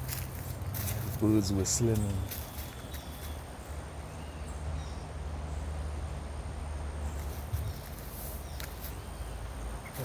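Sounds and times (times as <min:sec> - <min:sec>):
faint birds whistling: 0:00.6 - 0:06.0, 0:07.0 - 0:10.0.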